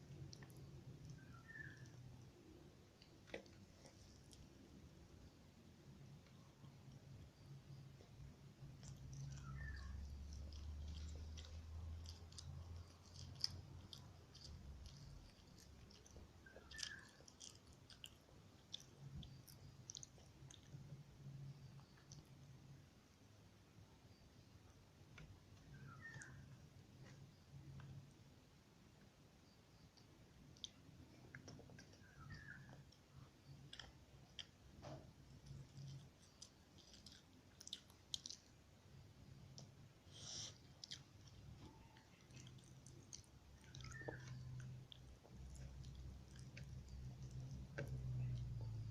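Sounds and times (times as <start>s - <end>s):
mouth chewing clicks and smacks: 0.0s - 4.7s, 6.3s - 22.5s, 25.2s - 28.0s, 29.9s - 38.7s, 39.3s - 48.9s.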